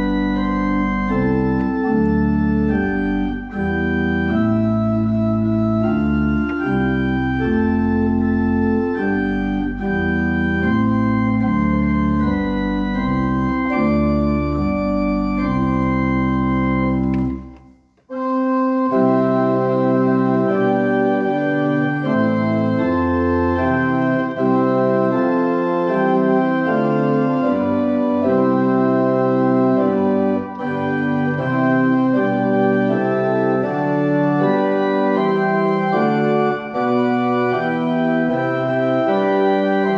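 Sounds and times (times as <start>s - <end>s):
church organ playing a hymn: 0.0s - 39.9s.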